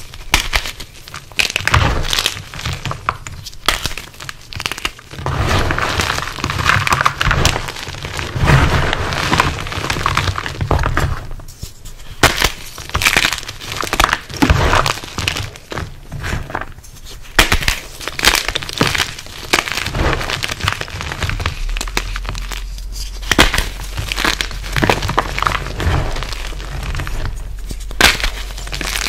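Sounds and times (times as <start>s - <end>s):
chalk blocks cracking: 0.0s - 29.0s
gritty crunching of chalk: 0.0s - 29.0s.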